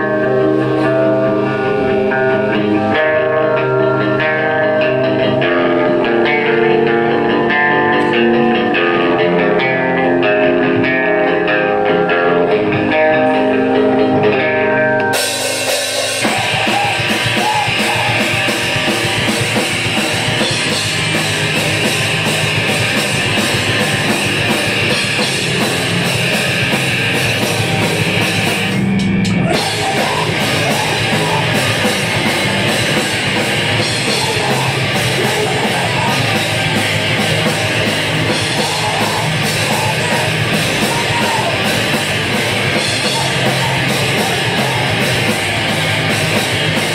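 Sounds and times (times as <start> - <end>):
electric guitar ringing: 0.0 - 46.9
hardcore band playing loud: 0.0 - 46.9.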